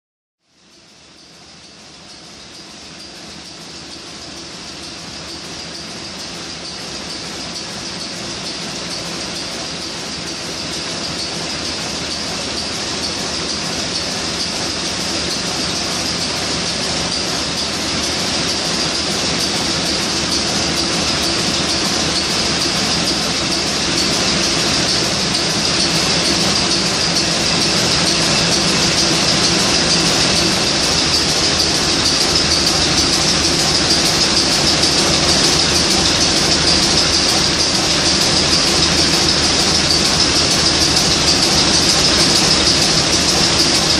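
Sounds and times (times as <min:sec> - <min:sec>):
marine diesel engine running: 0:02.3 - 0:43.9.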